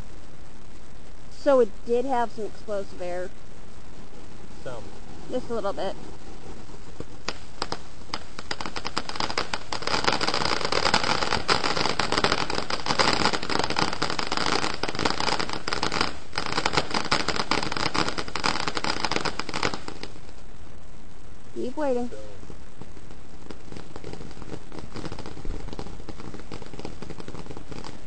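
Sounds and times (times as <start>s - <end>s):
firework fountain crackling hiss: 0.0s - 28.0s.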